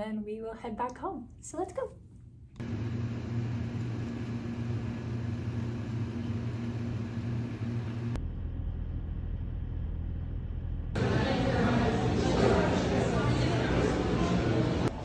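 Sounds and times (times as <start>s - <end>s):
low mechanical hum: 0.8s - 15.0s.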